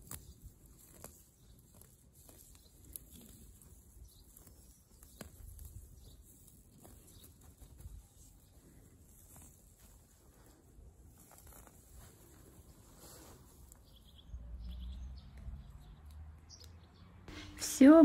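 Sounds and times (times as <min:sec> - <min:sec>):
plants rustling: 0:00.0 - 0:14.5.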